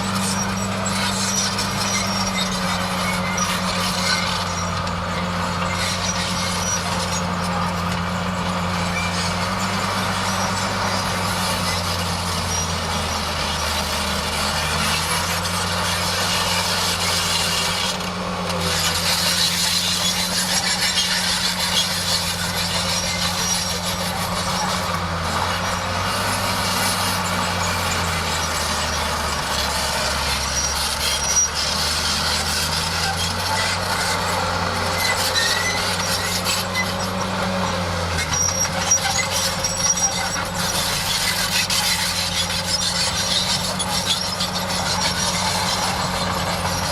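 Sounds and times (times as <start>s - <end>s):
bulldozer diesel engine under load: 0.0s - 46.9s
high noisy machine clatter: 0.0s - 46.9s.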